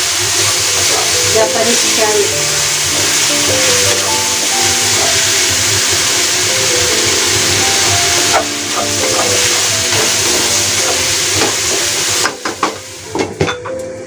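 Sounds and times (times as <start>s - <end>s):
food sizzling in a wok: 0.0s - 13.8s.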